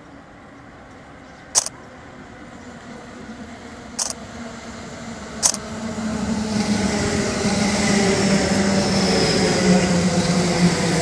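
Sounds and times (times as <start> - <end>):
electric train running with motor hum: 0.0 - 11.0.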